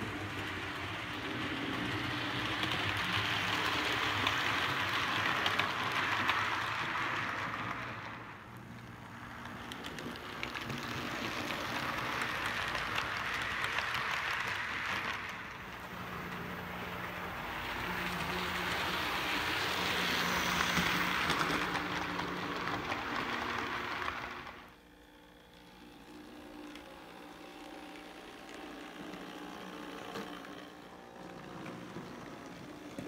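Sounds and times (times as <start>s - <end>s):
model train wheels rattling on rails: 0.0s - 24.8s, 26.1s - 33.0s.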